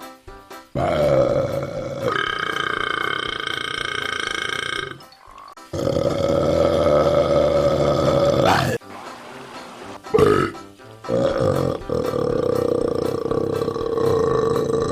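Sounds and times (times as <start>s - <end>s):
long burps: 0.8s - 8.8s, 10.1s - 14.9s.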